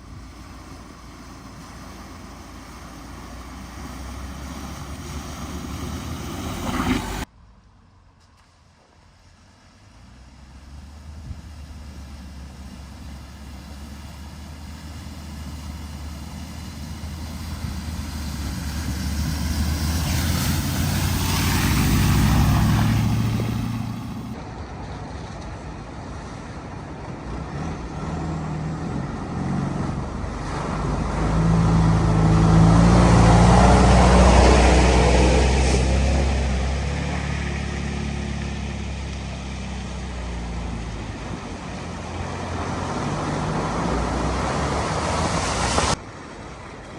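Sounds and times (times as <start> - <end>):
rush of water: 0.0 - 7.3, 8.7 - 24.4, 29.2 - 46.9
vehicle engines running: 0.0 - 7.3, 9.8 - 46.9.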